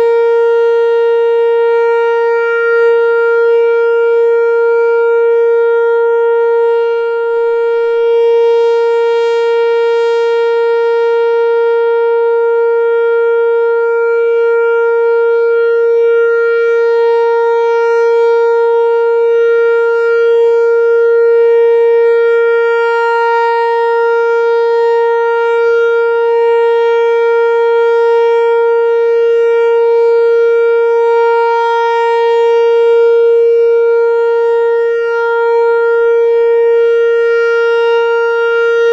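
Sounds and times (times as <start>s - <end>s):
steady warning siren tone: 0.0s - 38.9s.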